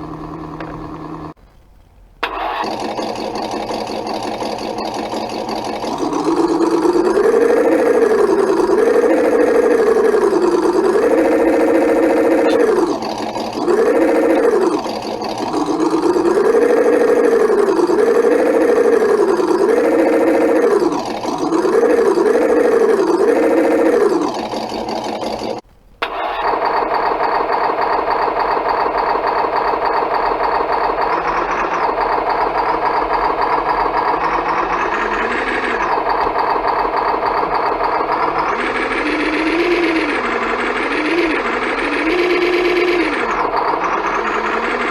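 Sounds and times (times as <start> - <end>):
simulated engine idling: 0.0 - 1.4, 2.2 - 44.9
simulated engine revving from speaker: 2.6 - 25.6, 30.4 - 44.9.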